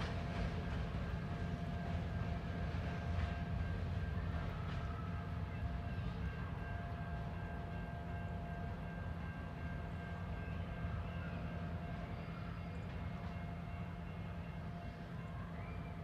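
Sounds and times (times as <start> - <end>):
faint steady whining tones: 0.0 - 16.0.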